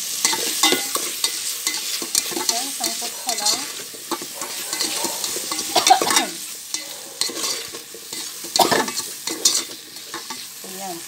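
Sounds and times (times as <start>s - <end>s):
beans sizzling in a pan: 0.0s - 11.0s
utensil scraping a metal pan: 0.2s - 10.6s.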